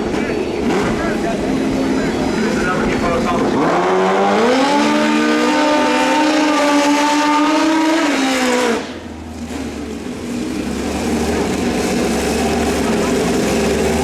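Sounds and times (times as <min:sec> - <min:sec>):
motorcycle engine at full throttle: 0:00.0 - 0:14.0.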